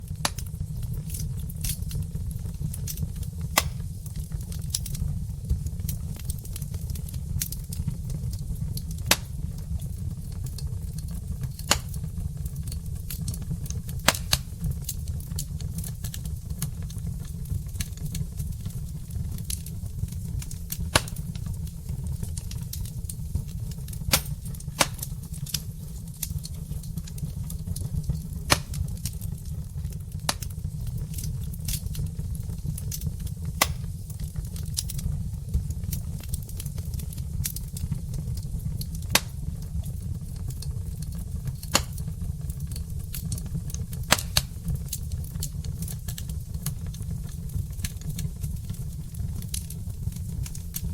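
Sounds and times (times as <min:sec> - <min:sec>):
low fire rumble: 0:00.0 - 0:50.9
wood fire crackling and popping: 0:00.0 - 0:50.9.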